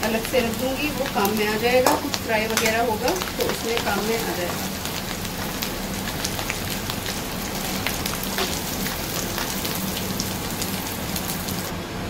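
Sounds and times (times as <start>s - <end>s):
hot oil sizzling and crackling: 0.0s - 11.7s.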